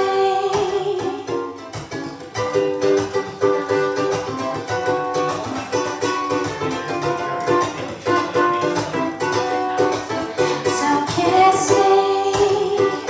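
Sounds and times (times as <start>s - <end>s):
strummed string instrument chords: 0.0s - 13.0s.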